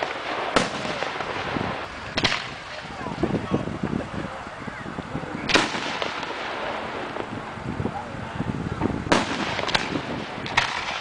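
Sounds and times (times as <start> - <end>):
firework bangs: 0.0 - 11.0
firework crack: 0.0 - 11.0.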